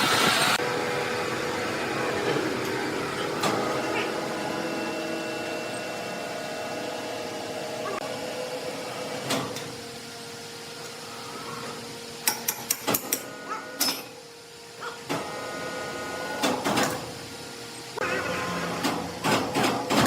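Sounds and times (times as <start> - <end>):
sawmill machinery humming: 0.0 - 20.0.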